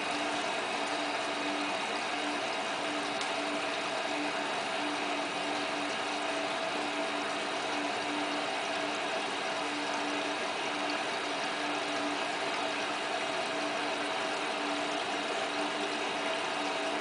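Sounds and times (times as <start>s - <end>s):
washing machine hissing: 0.0s - 17.0s.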